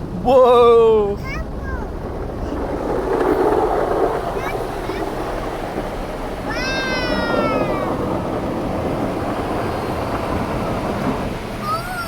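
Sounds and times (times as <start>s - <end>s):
car wash rushing: 0.0s - 12.0s.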